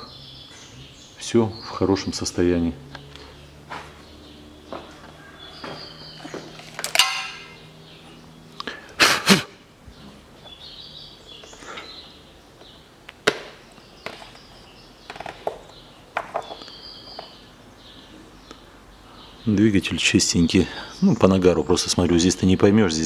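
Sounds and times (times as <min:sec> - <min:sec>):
birds chirping faintly: 0:00.0 - 0:23.0.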